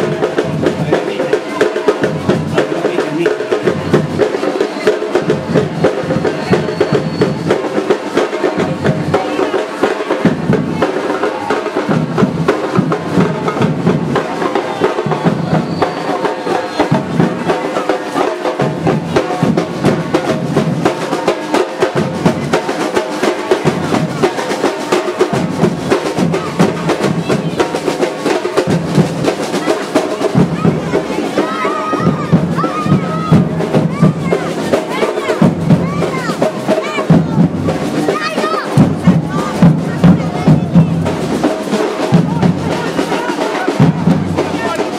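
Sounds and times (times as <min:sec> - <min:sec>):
drum group playing: 0:00.0 - 0:44.9.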